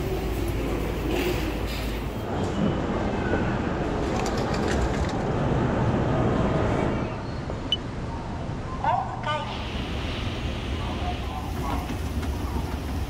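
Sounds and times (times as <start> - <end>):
station concourse background noise: 0.0 - 13.0.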